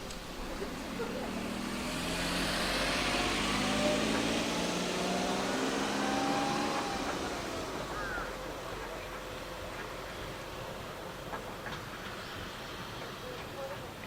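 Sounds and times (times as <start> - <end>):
diesel railcar engine running: 0.0 - 14.0.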